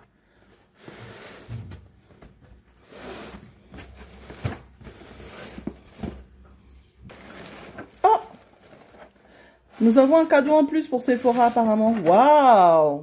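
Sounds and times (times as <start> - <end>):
cardboard and packing fill rustling: 0.0 - 12.7.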